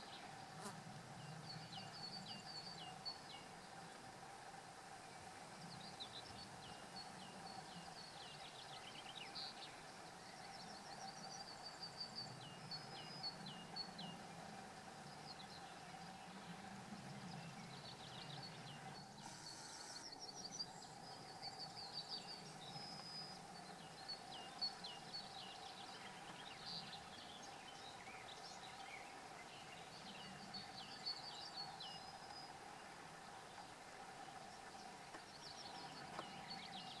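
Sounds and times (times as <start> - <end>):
faint birdsong: 0.0 - 37.0.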